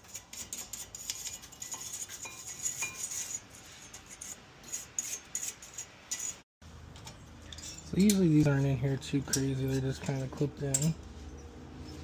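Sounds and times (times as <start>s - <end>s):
metal tool scraping brake parts: 0.0s - 6.4s, 7.4s - 12.0s.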